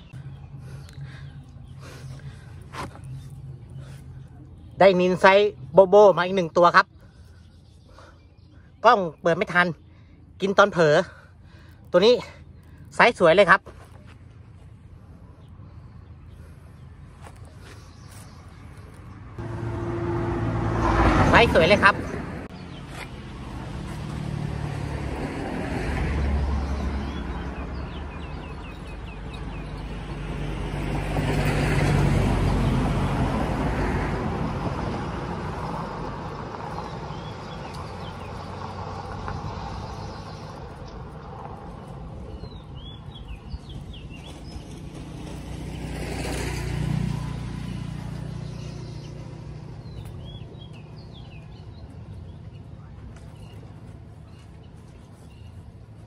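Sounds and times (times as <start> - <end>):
small birds chirping: 0.0 - 19.4, 21.3 - 24.9, 26.5 - 30.9, 34.7 - 56.0
road traffic rumble: 0.0 - 56.0.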